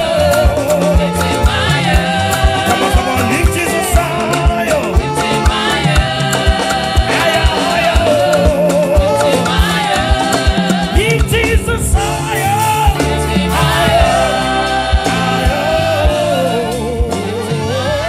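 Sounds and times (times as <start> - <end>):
steady drum beat: 0.0 - 17.8
bass: 0.0 - 18.0
voices singing gospel: 0.0 - 18.0.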